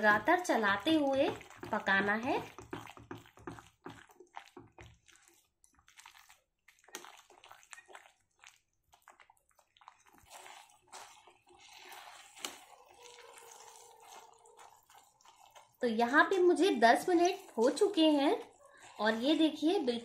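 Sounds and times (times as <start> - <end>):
spatula squelching and scraping: 0.0 - 20.0.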